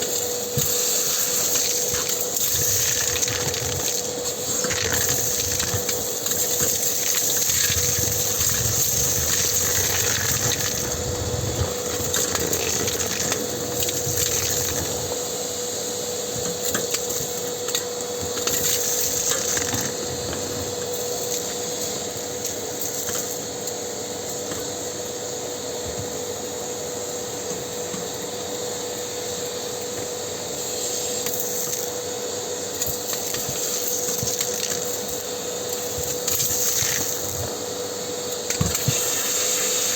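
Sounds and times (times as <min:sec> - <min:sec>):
vacuum cleaner humming: 0:00.0 - 0:39.9.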